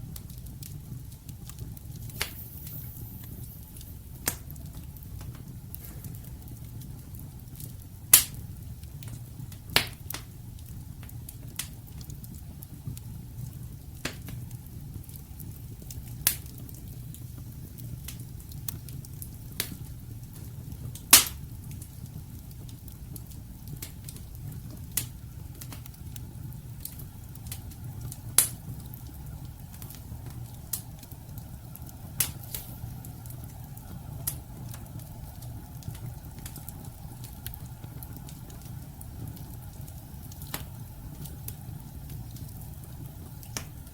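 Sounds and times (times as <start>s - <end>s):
fire low rumble: 0.0s - 43.9s
wood fire crackling and popping: 0.0s - 43.9s.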